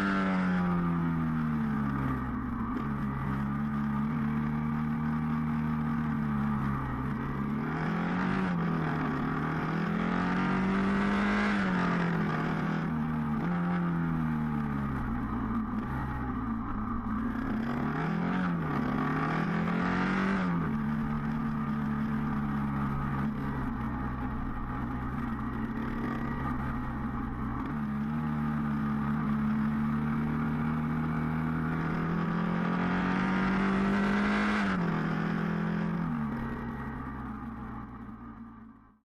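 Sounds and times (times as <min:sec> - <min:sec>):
motorcycle engine running at speed: 0:00.0 - 0:39.0.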